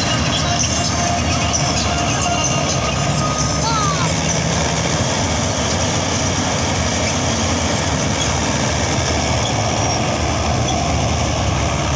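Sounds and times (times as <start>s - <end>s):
combine harvester engine rumble: 0.0s - 11.9s.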